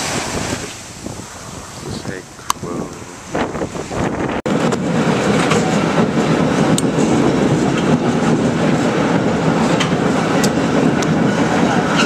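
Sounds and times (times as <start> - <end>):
rail car rumbling on track: 0.0 - 12.0.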